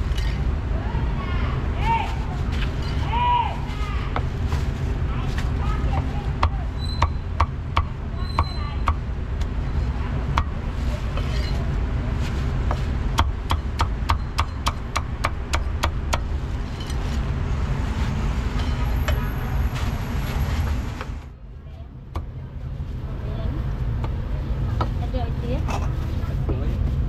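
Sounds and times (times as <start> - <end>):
low rumble of street traffic: 0.0 - 27.0.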